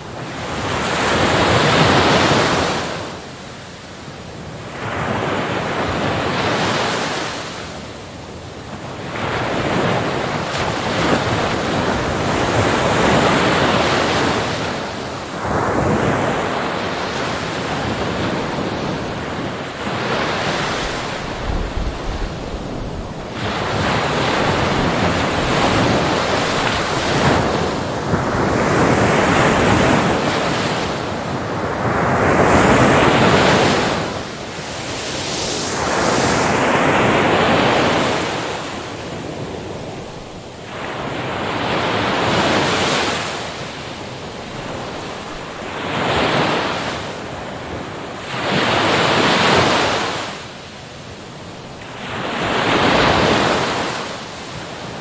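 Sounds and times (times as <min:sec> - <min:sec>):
wind noise on microphone: 0:00.0 - 0:55.0
ocean waves breaking: 0:09.0 - 0:55.0.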